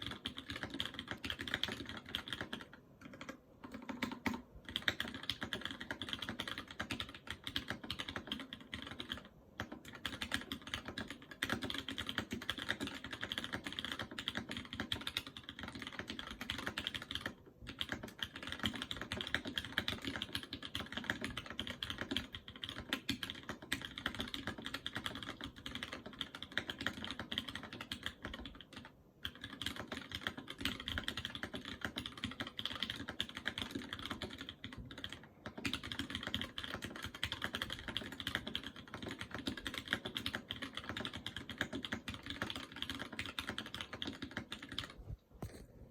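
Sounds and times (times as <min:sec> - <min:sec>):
mechanical keyboard typing: 0:00.0 - 0:45.0.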